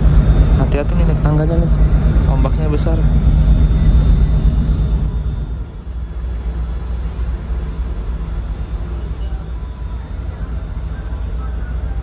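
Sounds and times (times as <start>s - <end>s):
faint high whine: 0.0s - 12.0s
ship engines rumbling: 0.0s - 12.0s.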